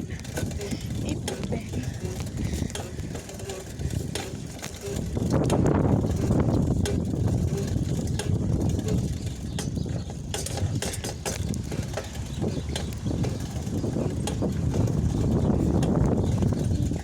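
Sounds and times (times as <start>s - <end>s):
bicycle clicking and rattling: 0.0s - 17.0s
wind and tyre rumble: 0.0s - 17.0s.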